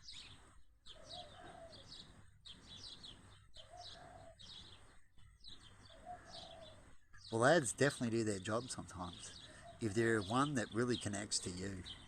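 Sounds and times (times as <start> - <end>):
lower rounded bird call: 0.0 - 12.0
small birds chirping: 0.0 - 12.0.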